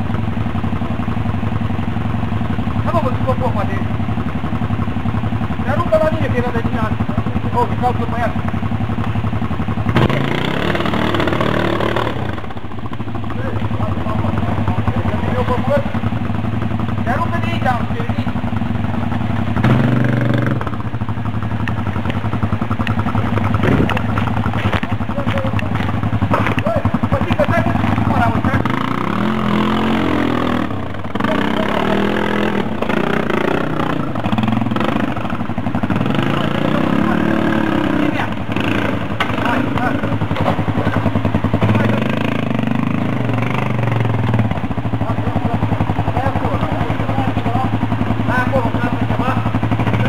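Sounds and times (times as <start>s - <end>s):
quad bike engine revving: 0.0s - 50.0s
quad bike engines running: 0.0s - 50.0s.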